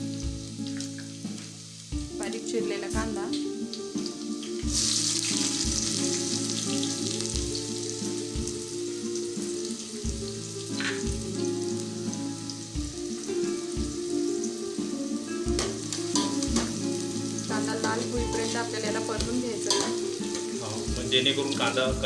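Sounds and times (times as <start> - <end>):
onion sizzling in hot oil: 0.0 - 22.0
soft background music: 0.0 - 22.0.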